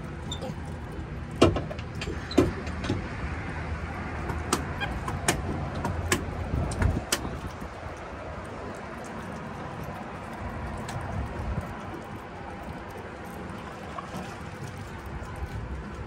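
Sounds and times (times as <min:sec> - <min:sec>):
boat motor rumbling: 0:00.0 - 0:16.0.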